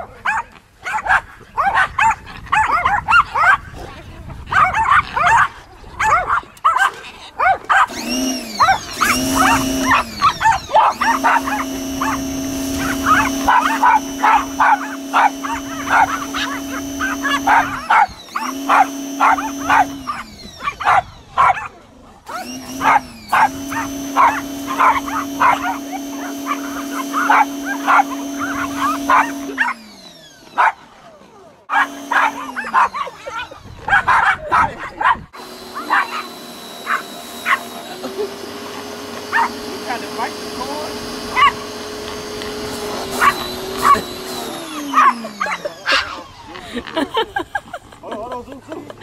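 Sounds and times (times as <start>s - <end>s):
dogs barking: 0.0s - 29.8s, 30.5s - 30.9s, 31.7s - 38.3s, 39.2s - 39.7s, 41.3s - 41.8s, 43.0s - 46.3s
pressure washer motor and pump: 7.7s - 34.2s, 35.3s - 49.0s.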